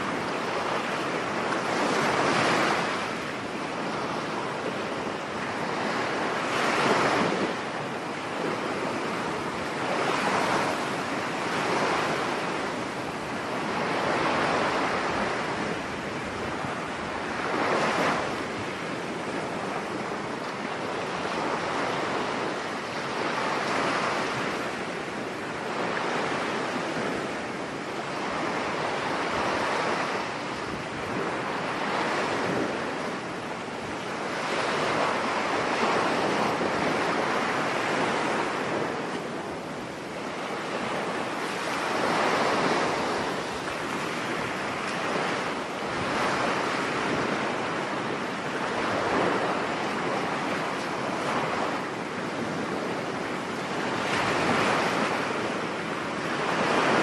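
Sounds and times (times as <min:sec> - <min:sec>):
surf breaking on a beach: 0:00.0 - 0:57.0
wind: 0:00.0 - 0:57.0.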